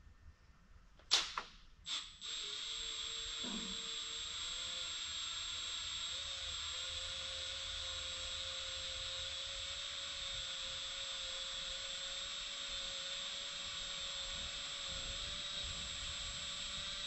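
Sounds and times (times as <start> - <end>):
electric drill whining: 2.2 - 17.0.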